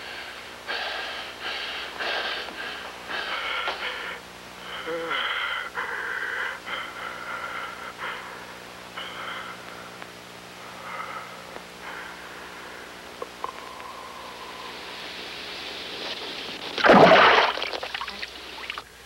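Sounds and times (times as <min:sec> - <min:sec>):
person breathing heavily: 0:00.0 - 0:15.4
steady low hum: 0:00.0 - 0:19.0.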